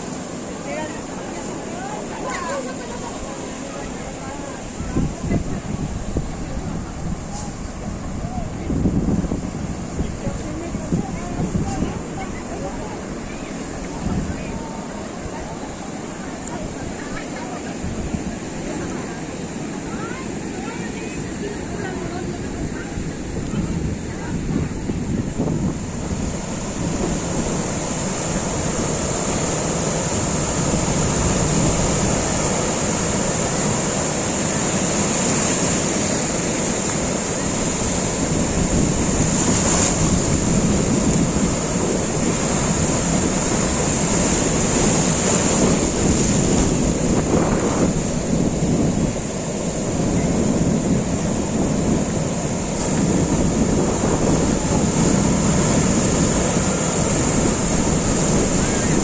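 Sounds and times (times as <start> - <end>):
surf washing onto beach: 0.0 - 59.0
wind buffeting microphone: 0.0 - 59.0.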